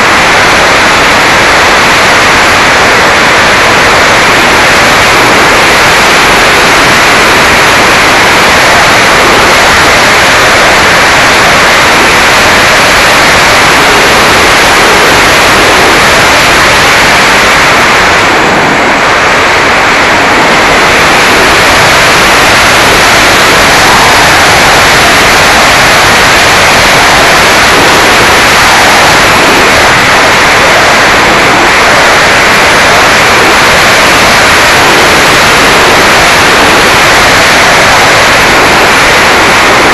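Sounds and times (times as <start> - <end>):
airflow rushing over microphone: 0.0 - 39.9.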